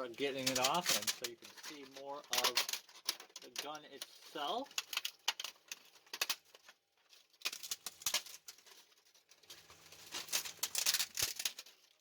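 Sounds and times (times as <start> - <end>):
plastic snapping and crackling: 0.0 - 12.0.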